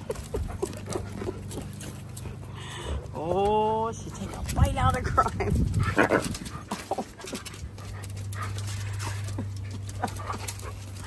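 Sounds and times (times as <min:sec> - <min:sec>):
dogs vocalizing in play: 0:00.0 - 0:03.1, 0:04.1 - 0:11.0
dogs panting: 0:00.0 - 0:11.0
low steady hum: 0:00.0 - 0:11.0.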